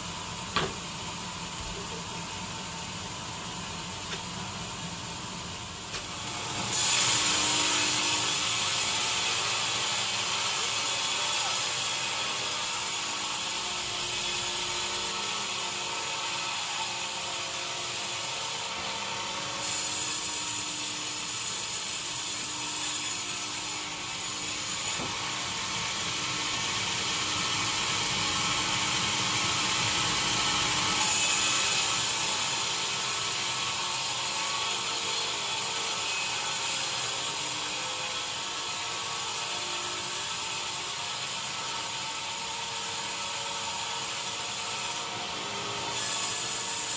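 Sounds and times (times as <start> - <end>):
sawmill machinery whine: 0.0 - 46.9.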